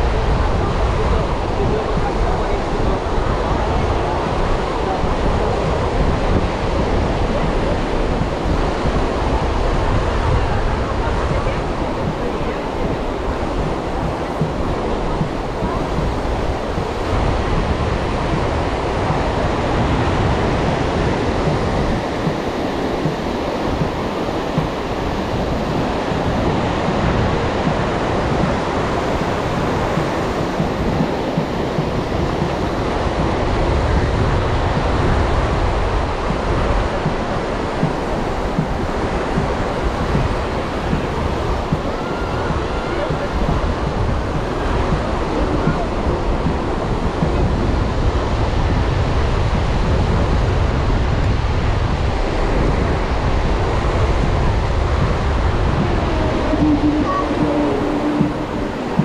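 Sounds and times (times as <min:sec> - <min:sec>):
ocean waves washing onto beach: 0:00.0 - 0:59.0
wind buffeting microphone: 0:00.0 - 0:59.0.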